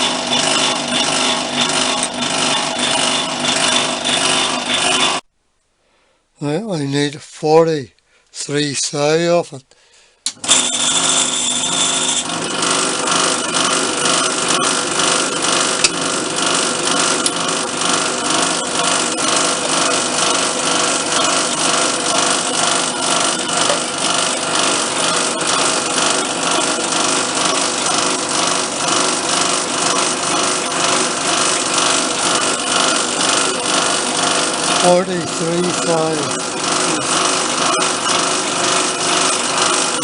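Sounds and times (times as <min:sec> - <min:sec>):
power tool motor rattling: 0:00.0 - 0:05.2, 0:10.4 - 0:40.0.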